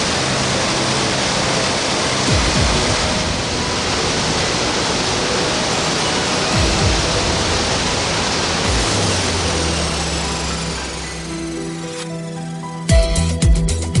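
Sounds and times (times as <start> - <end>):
waterfall roaring: 0.0 - 12.0
low music notes: 0.0 - 14.0.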